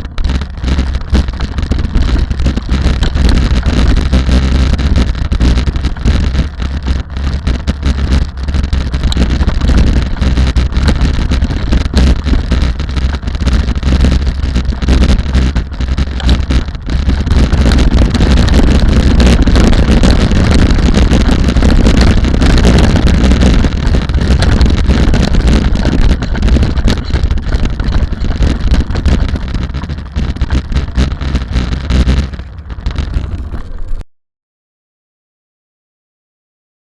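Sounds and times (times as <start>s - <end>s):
rally vehicle engine running: 0.0s - 34.0s
wind rumble on microphone: 0.0s - 34.0s.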